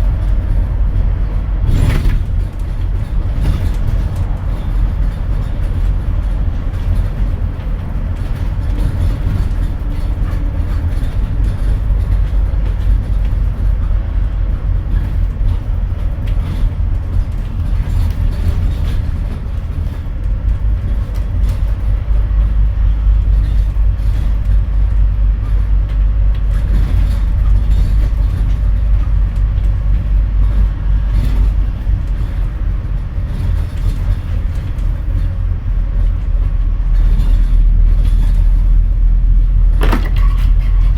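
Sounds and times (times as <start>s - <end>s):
bus engine droning: 0.0s - 40.9s
road noise: 0.0s - 40.9s.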